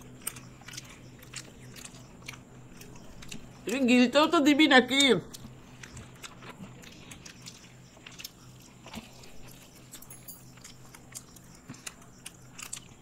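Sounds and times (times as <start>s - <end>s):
people chewing and mouth smacks: 0.0s - 13.0s.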